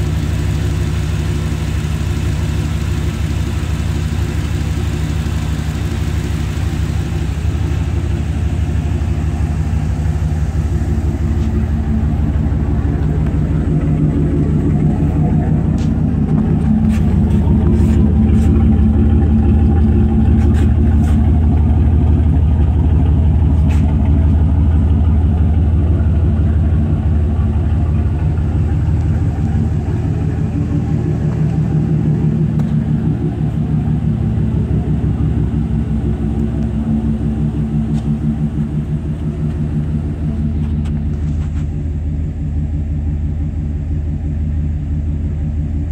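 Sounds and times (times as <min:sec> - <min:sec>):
truck engine idling: 0:00.0 - 0:45.9.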